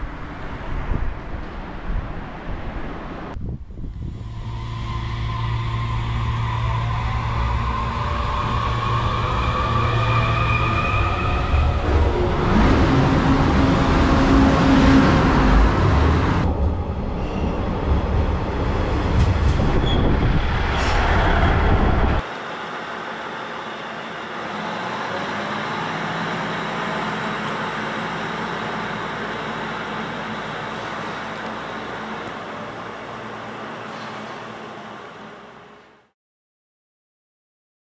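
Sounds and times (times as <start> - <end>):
diesel railcar running: 0.0 - 36.1
railcar wheel and running noise: 0.0 - 36.1.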